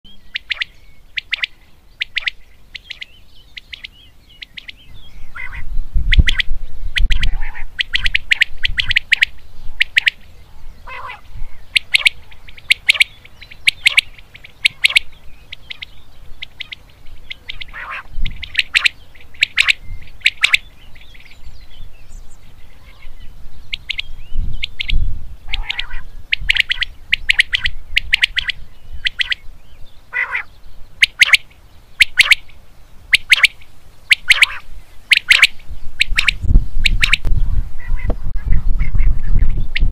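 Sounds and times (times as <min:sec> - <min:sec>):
quail singing: 0:00.1 - 0:39.9.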